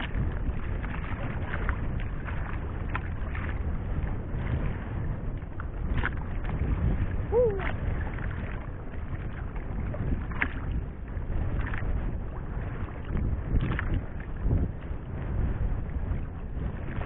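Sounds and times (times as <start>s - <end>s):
water washing against boat hull: 0.0s - 17.0s
wind buffeting microphone: 0.0s - 17.0s.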